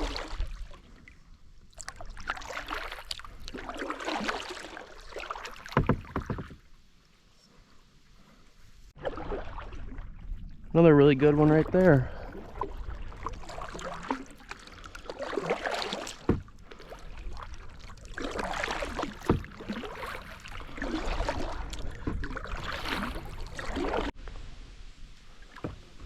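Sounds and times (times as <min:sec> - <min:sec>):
paddle splashing and dripping: 0:00.0 - 0:26.0.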